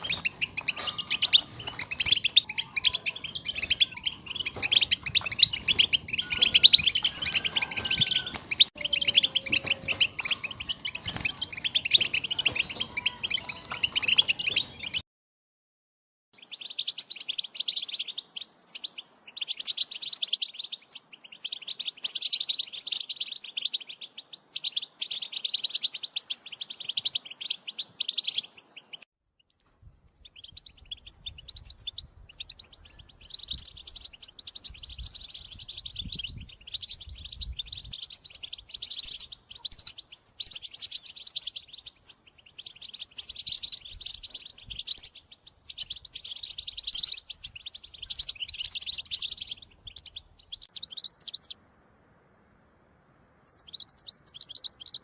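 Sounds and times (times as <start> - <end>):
finch singing tinkling twitters: 0.0 - 15.0, 16.4 - 51.6, 53.5 - 55.0.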